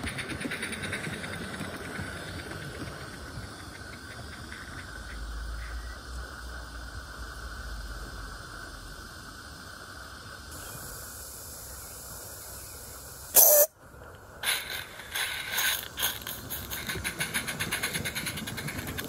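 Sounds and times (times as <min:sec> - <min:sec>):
locomotive steam puffs: 0:00.0 - 0:13.7, 0:14.4 - 0:19.0
steam hissing: 0:00.0 - 0:13.8, 0:14.4 - 0:19.0.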